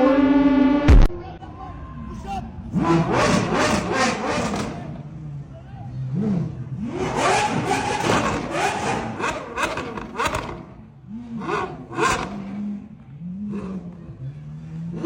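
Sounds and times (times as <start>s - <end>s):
car engine revving and idling: 2.0s - 15.0s.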